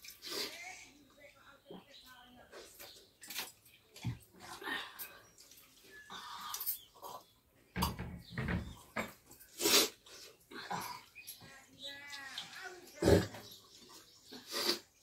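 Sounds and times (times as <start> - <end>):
wet eating and drinking: 0.0 - 15.0.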